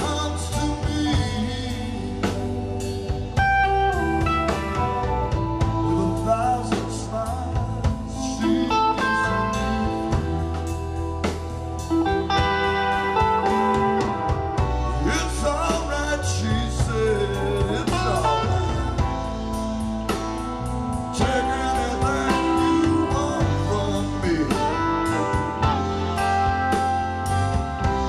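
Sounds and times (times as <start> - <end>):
electric guitar bending notes: 0.0 - 28.0
live rock band playing: 0.0 - 28.0.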